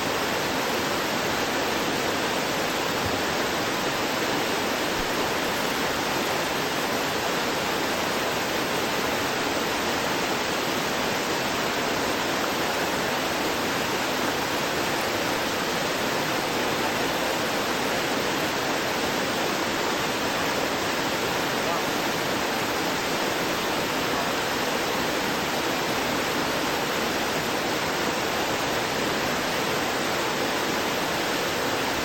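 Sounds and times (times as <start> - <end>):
waterfall rushing over stones: 0.0 - 32.0.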